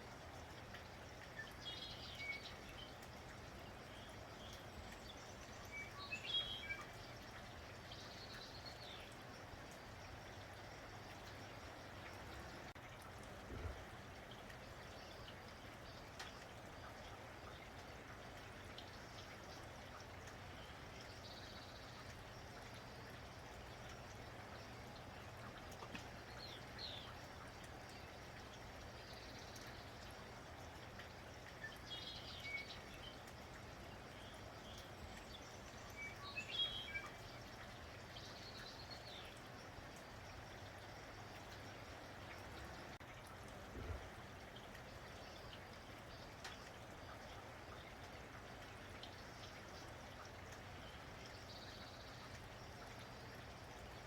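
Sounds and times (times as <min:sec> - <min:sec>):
steady falling rain: 0:00.0 - 0:54.0.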